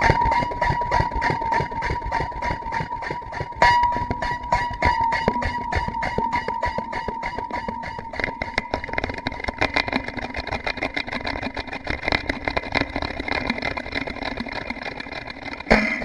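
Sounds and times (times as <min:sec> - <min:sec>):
fast rattle with delay and reverb: 0:00.0 - 0:16.0.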